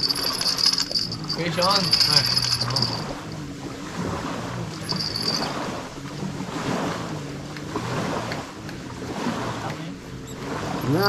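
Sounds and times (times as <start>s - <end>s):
moving water: 0.0s - 11.0s.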